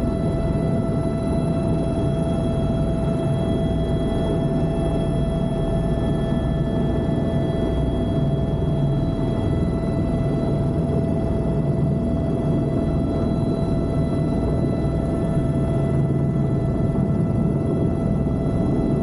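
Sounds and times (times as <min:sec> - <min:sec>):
helicopter drone: 0:00.0 - 0:19.0.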